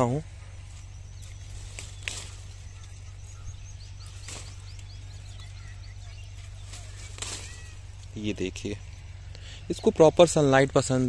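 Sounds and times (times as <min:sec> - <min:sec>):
bean vines rustling: 0:00.0 - 0:11.0
bird chirping: 0:00.0 - 0:11.0
steady low rumble: 0:00.0 - 0:11.0.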